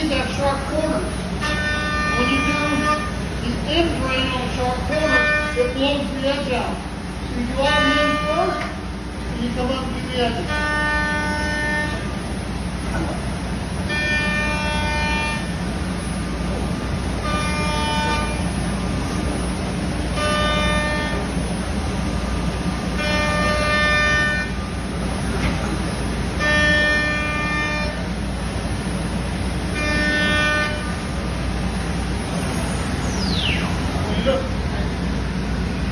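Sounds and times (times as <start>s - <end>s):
cnc router rumble: 0.0s - 35.9s
pitched router whine: 0.0s - 35.9s.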